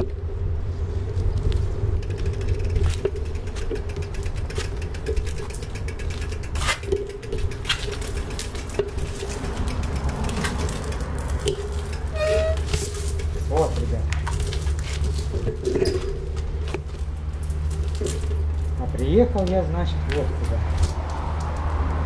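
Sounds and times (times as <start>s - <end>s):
bicycle rolling over concrete: 0.0s - 22.0s
bike clicks and knocks: 1.0s - 22.0s.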